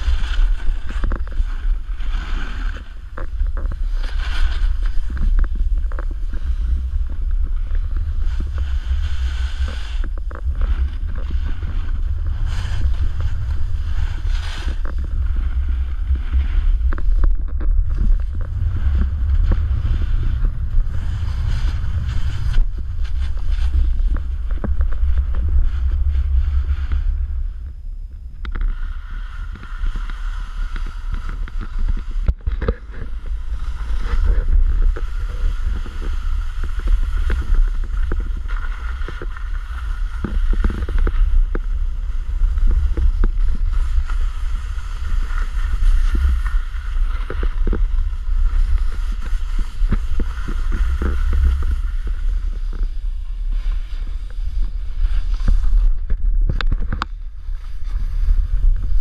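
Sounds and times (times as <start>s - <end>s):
snowboard sliding on snow: 0.0s - 27.9s, 28.6s - 56.5s, 57.1s - 59.0s
wind buffeting microphone: 0.0s - 59.0s.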